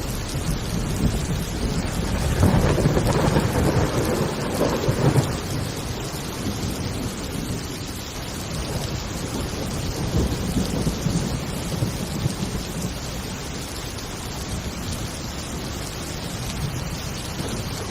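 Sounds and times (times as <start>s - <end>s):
rolling thunder: 0.0s - 13.3s, 14.4s - 17.9s
heavy rain falling: 0.0s - 17.9s.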